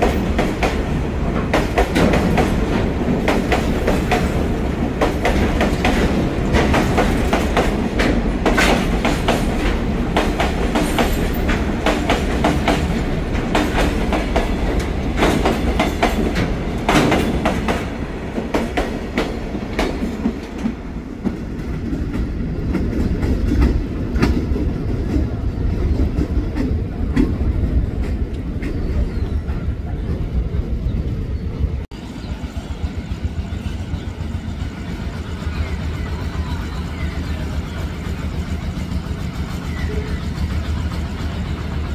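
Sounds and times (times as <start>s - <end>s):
train wheels clickety-clack: 0.0s - 31.2s, 32.2s - 41.9s
train low rumble: 0.0s - 41.9s.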